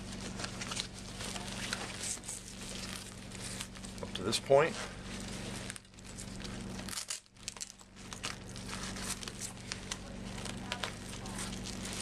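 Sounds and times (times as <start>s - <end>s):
fabric crinkling and rustling: 0.0s - 12.0s.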